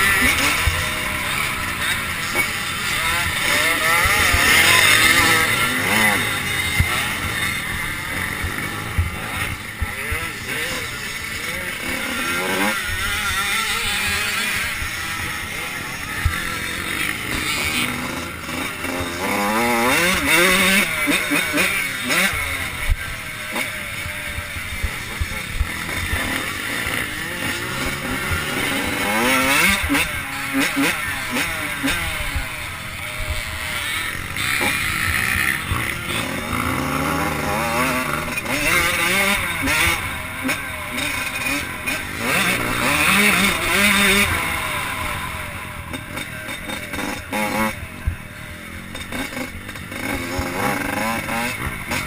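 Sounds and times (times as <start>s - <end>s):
motocross bikes revving: 0.0s - 52.0s.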